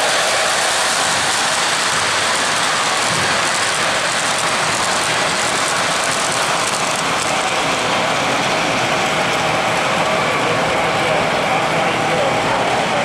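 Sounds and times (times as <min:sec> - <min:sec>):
model train wheels rumbling on rail: 0:00.0 - 0:13.0.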